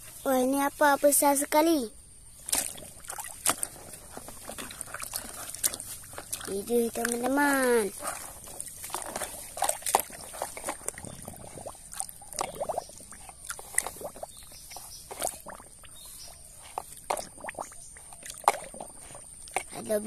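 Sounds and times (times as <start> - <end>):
hand sloshing in muddy water: 2.4 - 20.0.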